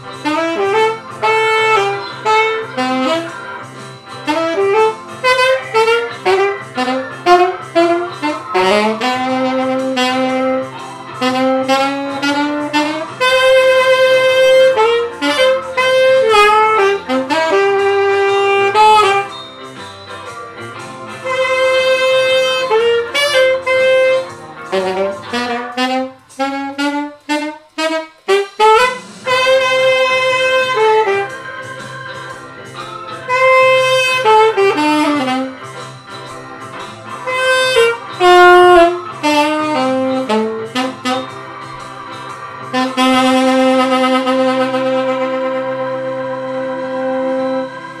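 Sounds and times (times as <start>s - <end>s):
alto saxophone playing rock and roll: 0.0s - 48.0s.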